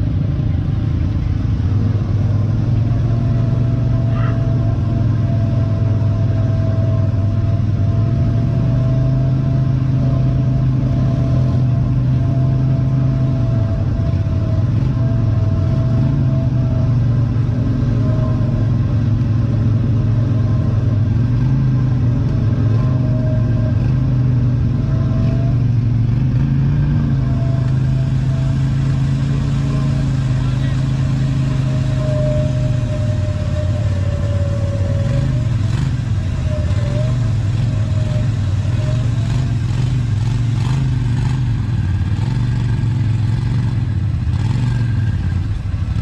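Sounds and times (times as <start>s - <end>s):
engine running at low revs: 0.0s - 46.0s.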